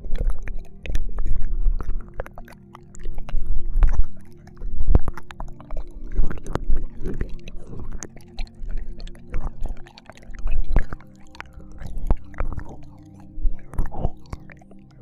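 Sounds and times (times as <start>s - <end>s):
mouth smacks and clicks: 0.0s - 15.0s
wet tongue and mouth sounds: 0.0s - 15.0s.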